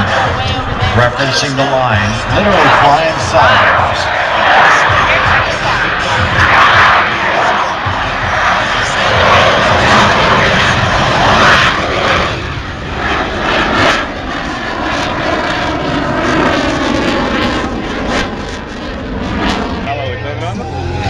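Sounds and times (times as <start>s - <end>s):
jet engines on low pass: 0.0s - 21.0s.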